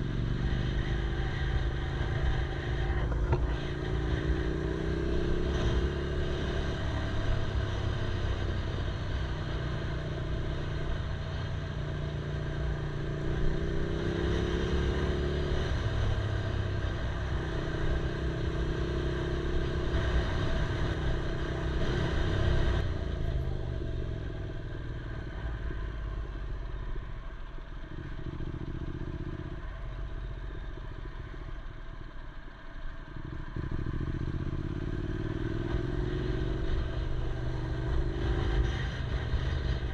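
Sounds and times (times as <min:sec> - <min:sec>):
motorcycle engine revving: 0:00.0 - 0:26.5, 0:33.1 - 0:39.9.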